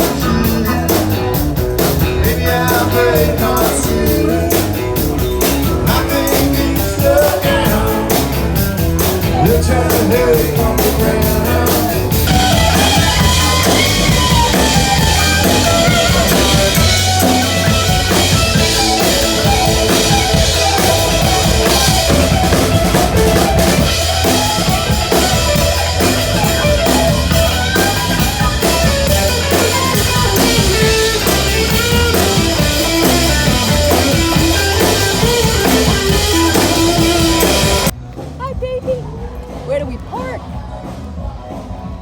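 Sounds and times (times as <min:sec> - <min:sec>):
drum kit beat: 0:00.0 - 0:42.0
live rock band playing: 0:00.0 - 0:42.0.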